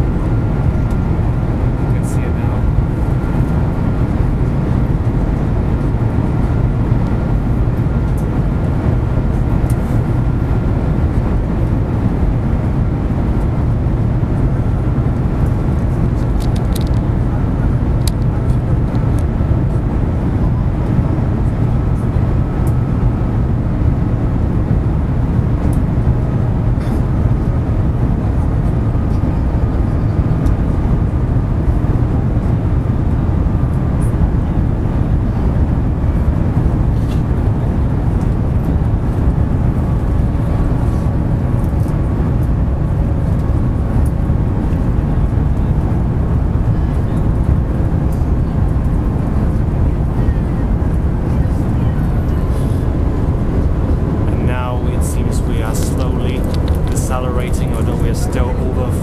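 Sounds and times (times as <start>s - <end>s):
train cabin rumble and rush: 0.0s - 59.0s.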